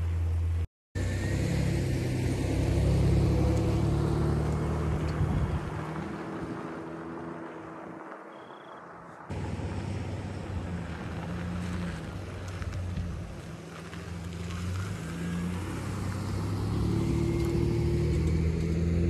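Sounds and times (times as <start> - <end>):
motorcycle engine passing: 1.0 - 8.2, 9.3 - 19.0
car driving past: 1.0 - 19.0.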